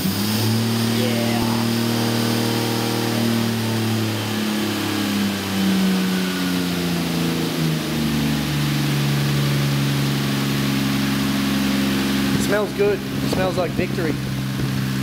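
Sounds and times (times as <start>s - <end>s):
turbocharged car engine idling: 0.0s - 15.0s.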